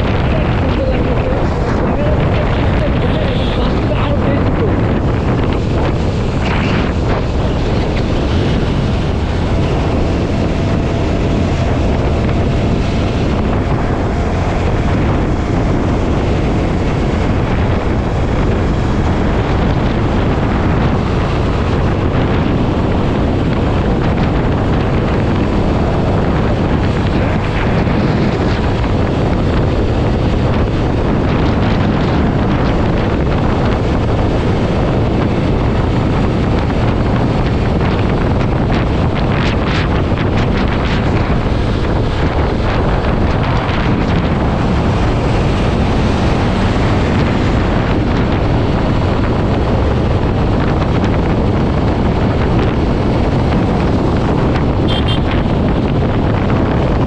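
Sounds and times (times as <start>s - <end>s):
motorcycle engine: 0.0s - 57.0s
road noise: 0.0s - 57.0s
wind rushing over microphone: 0.0s - 57.0s.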